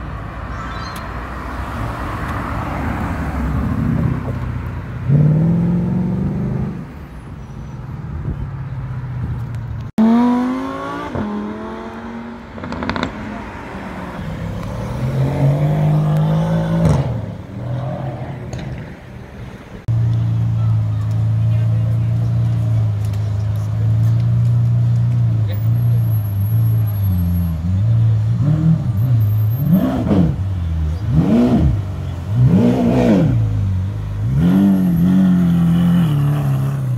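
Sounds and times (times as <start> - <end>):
traffic noise: 0.0 - 36.9
sports car engines accelerating: 0.3 - 36.9.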